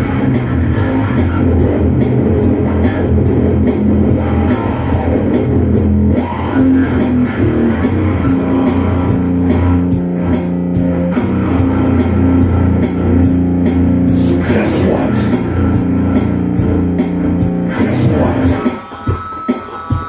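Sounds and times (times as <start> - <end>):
drums: 0.0 - 20.0
electric bass: 0.0 - 20.0.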